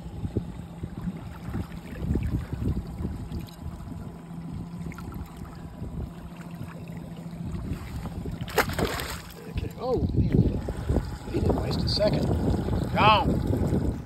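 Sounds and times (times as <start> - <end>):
low steady hum: 0.0 - 14.0
water splashing against a boat: 0.0 - 14.0
wind rumbling on microphone: 0.0 - 14.0.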